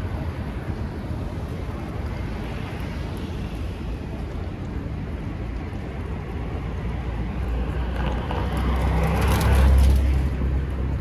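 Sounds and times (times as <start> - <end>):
low rumble of traffic: 0.0 - 11.0
vehicle approaching: 0.0 - 11.0.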